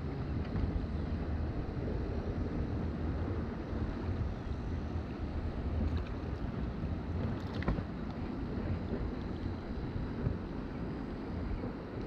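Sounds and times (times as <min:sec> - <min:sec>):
shallow river water rushing: 0:00.0 - 0:12.0
wind buffeting microphone: 0:00.0 - 0:12.0.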